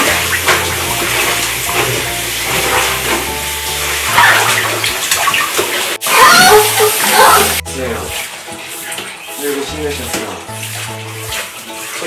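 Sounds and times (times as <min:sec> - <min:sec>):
bathtub water running and sloshing: 0:00.0 - 0:12.0.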